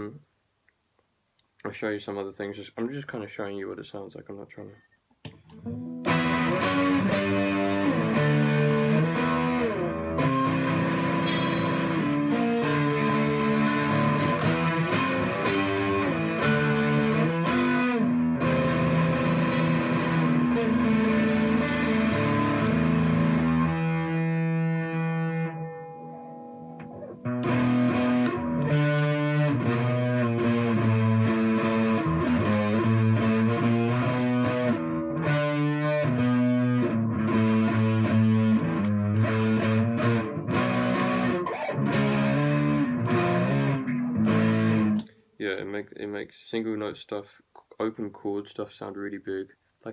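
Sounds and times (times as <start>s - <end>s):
electric twelve-string guitar: 5.3s - 45.2s.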